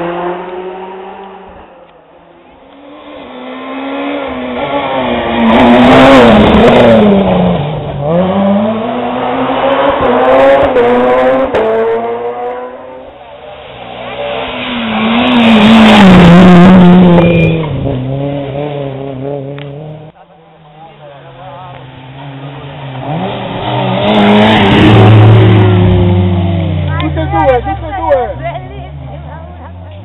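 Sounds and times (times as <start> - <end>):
rally cars driving past: 0.0 - 30.0.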